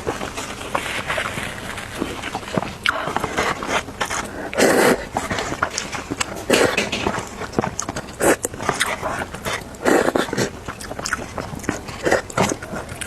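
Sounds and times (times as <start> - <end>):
slurping noodles: 0.0 - 13.0.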